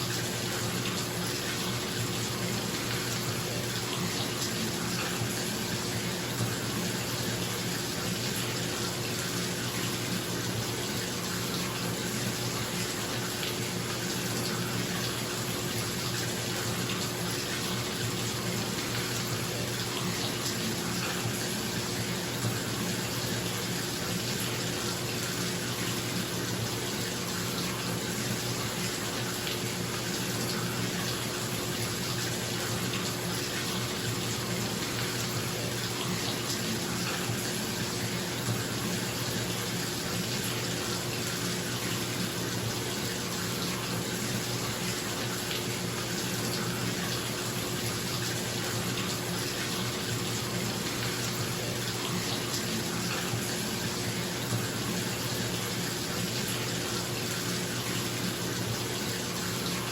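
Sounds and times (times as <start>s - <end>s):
tap water filling bathtub: 0.0s - 59.9s.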